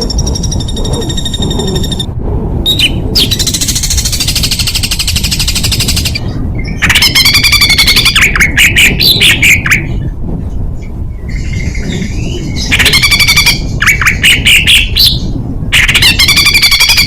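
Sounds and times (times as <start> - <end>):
songbird rattling trill: 0.0 - 2.1, 2.7 - 10.0, 11.2 - 17.0.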